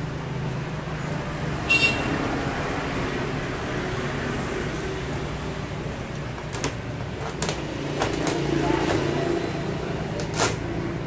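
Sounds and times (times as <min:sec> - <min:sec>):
workshop room hum and hiss: 0:00.0 - 0:11.0.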